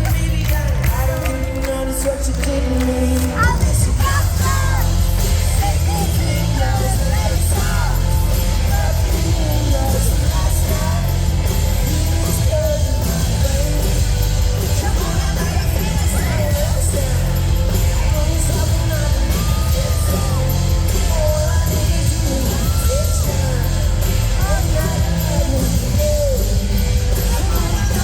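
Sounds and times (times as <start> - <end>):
person singing: 0.0 - 28.0
rock band playing: 0.0 - 28.0.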